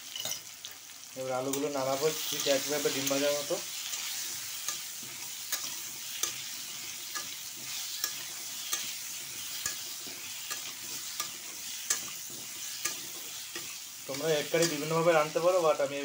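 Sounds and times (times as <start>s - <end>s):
potatoes sizzling in oil: 0.0s - 16.0s
spatula scraping pan: 1.5s - 15.6s.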